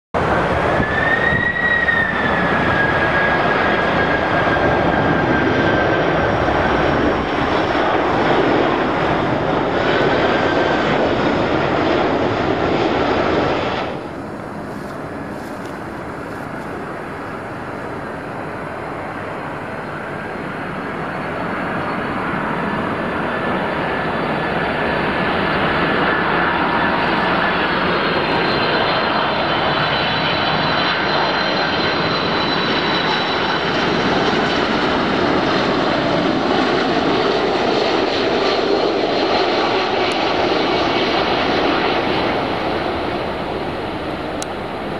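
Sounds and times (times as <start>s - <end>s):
high jet fan whine: 0.2s - 44.9s
jet engines roaring: 0.2s - 44.9s.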